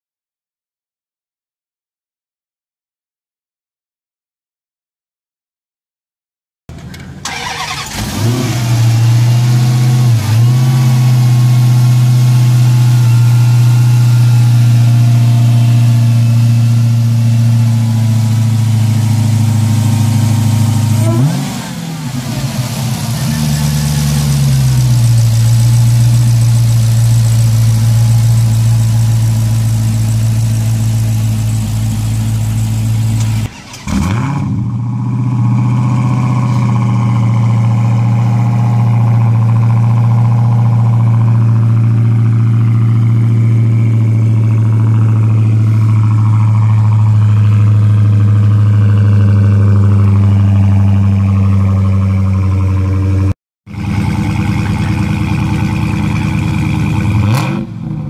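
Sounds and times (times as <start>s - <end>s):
car engine idling: 6.7s - 33.9s, 34.7s - 58.0s.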